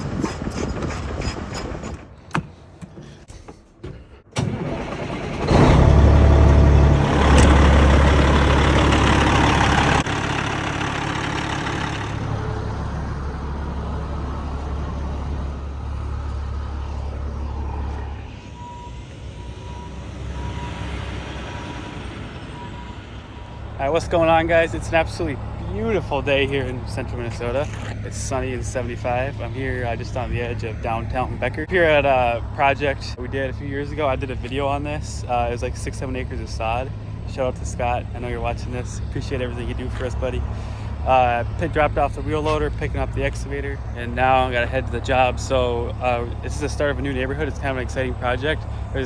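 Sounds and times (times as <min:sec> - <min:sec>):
heavy diesel engine running: 0:04.3 - 0:49.0.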